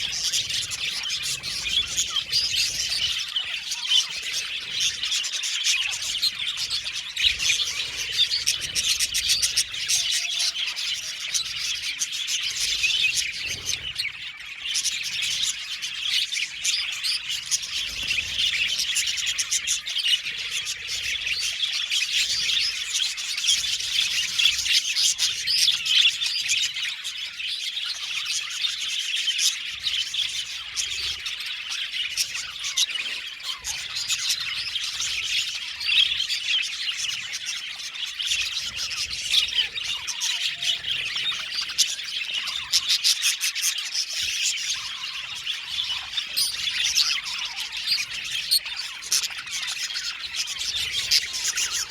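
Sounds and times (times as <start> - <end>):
budgerigars chattering and chirping: 0.0 - 51.9.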